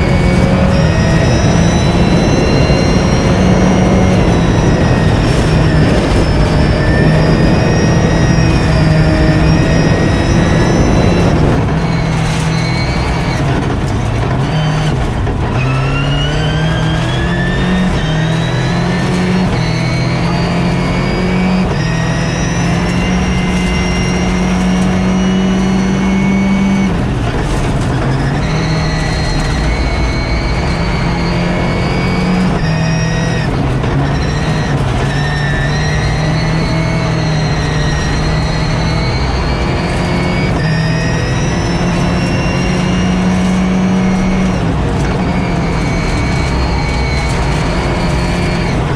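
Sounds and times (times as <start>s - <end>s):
vehicle engine revving: 0.0s - 48.9s.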